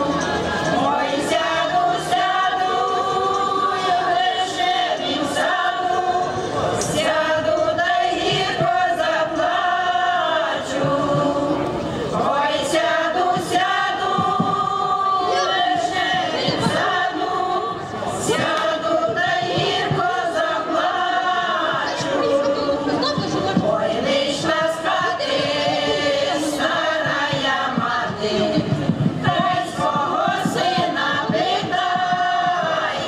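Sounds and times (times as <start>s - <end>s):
women's choir singing unaccompanied: 0.0s - 33.0s.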